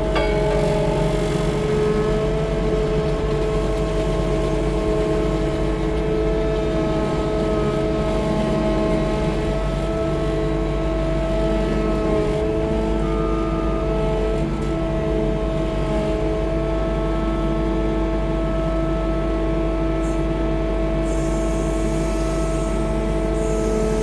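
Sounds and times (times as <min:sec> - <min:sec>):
loader engine droning with whine: 0:00.0 - 0:24.0.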